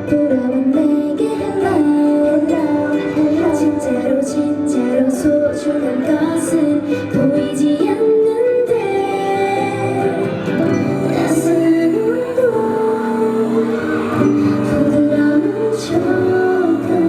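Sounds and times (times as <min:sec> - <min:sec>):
pop backing music over loudspeakers: 0:00.0 - 0:17.0
woman singing: 0:00.0 - 0:17.0.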